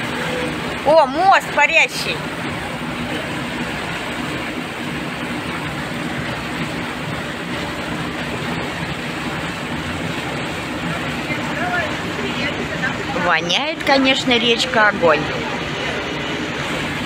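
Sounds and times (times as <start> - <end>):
boat engine drone: 0.0 - 17.0
water rushing along hull: 0.0 - 17.0.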